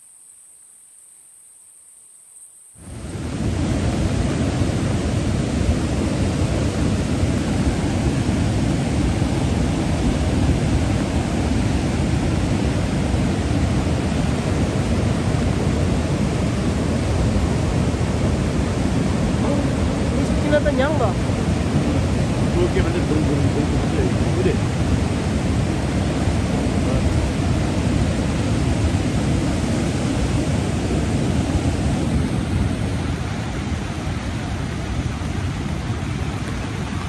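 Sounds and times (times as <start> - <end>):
river water rushing: 2.8 - 37.0.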